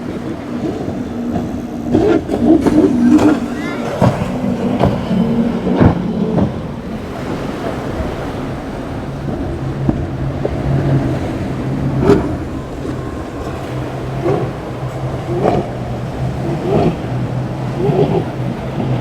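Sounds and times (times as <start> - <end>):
motorboat engines running: 0.0 - 19.0
rough water rushing: 0.0 - 19.0.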